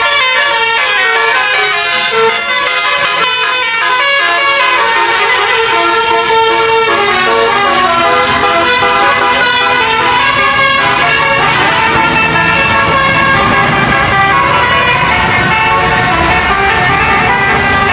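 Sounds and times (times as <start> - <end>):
multi-tone bus horn tune: 0.0 - 17.9.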